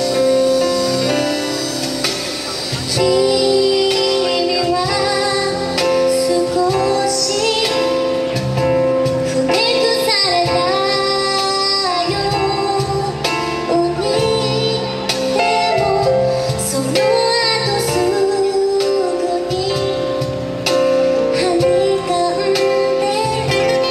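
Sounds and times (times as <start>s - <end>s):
band playing: 0.0s - 23.9s
woman singing a slow ballad: 2.8s - 23.9s.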